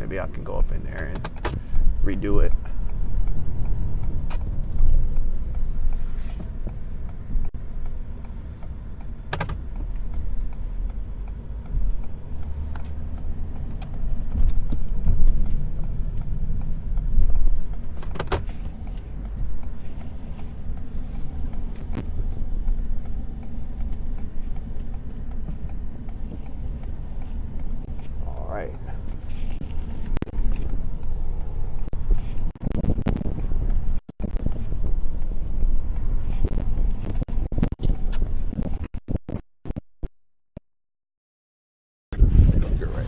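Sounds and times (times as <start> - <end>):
truck engine rumble: 0.0 - 38.8.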